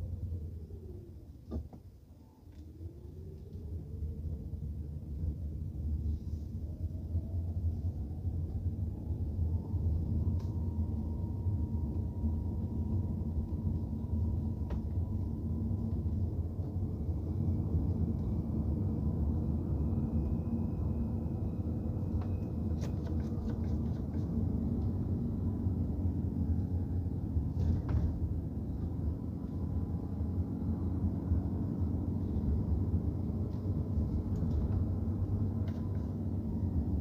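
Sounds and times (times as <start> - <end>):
car engine and road rumble: 0.0 - 37.0
faint whine: 0.0 - 37.0.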